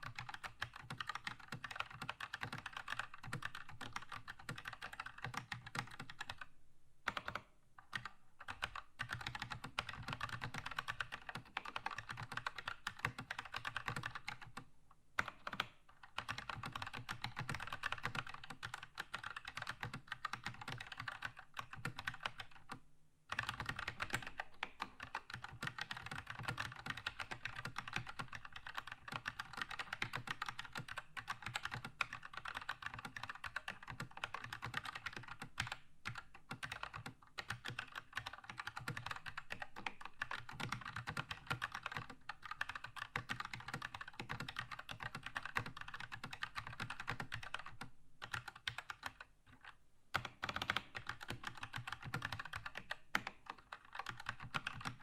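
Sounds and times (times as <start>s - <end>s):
mechanical keyboard typing: 0.0s - 6.5s, 7.1s - 14.6s, 15.2s - 55.0s.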